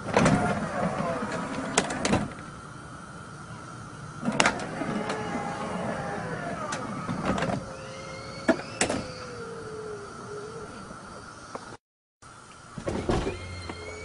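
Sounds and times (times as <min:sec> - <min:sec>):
electric motor whining: 0:00.0 - 0:02.4, 0:03.5 - 0:11.2, 0:12.8 - 0:14.0.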